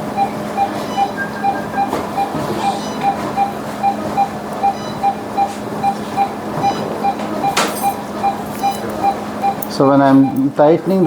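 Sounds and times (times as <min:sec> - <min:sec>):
equipment hum: 0:00.0 - 0:11.0
patient monitor beeping: 0:00.0 - 0:11.0.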